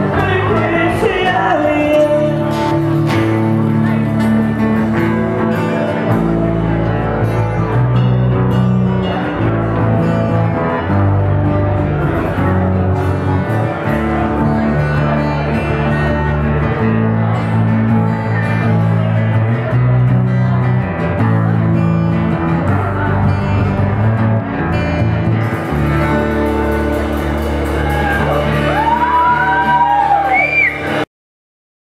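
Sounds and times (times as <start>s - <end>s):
strummed acoustic guitars: 0.0s - 31.0s
bass guitar: 0.0s - 31.1s.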